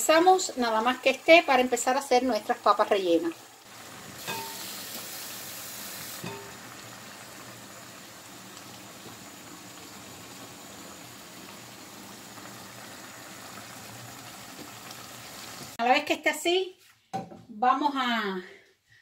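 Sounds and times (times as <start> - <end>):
food sizzling in a frying pan: 0.0 - 15.8
pot boiling: 0.0 - 15.8.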